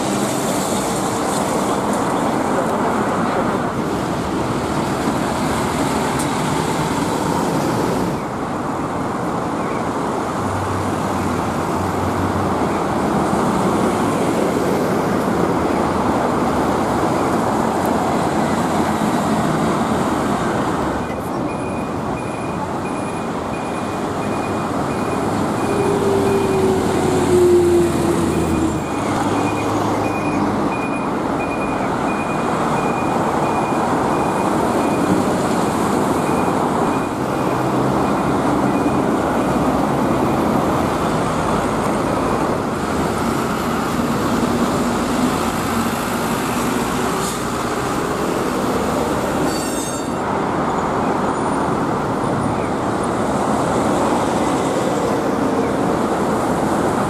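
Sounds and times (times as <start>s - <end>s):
buses and trucks driving past: 0.0s - 57.0s.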